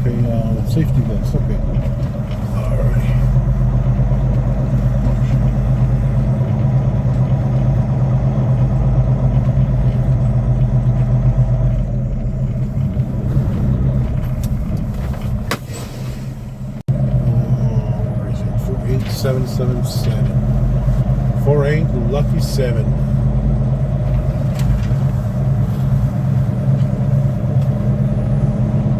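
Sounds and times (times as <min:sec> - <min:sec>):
diesel truck engine droning: 0:00.0 - 0:28.9.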